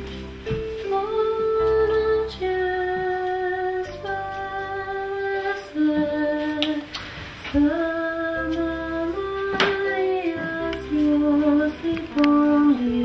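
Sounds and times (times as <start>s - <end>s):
soft accompaniment: 0.0s - 13.0s
woman singing slow melody: 0.7s - 13.0s.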